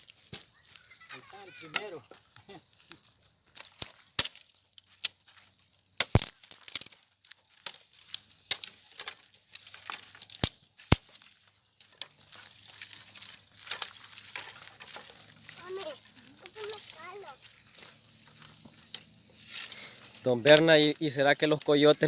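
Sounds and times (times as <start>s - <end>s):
crunchy rustling: 0.0s - 22.0s
dry sticks snapping: 3.6s - 22.0s.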